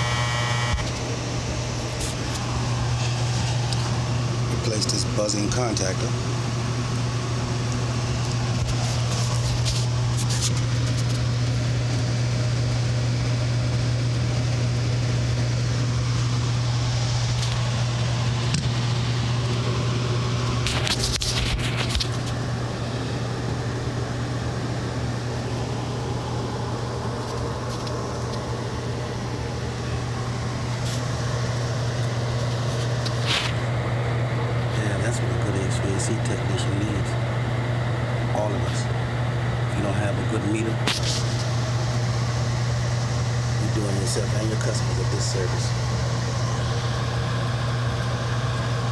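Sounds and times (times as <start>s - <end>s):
contactor buzzing low hum: 0.0s - 48.9s.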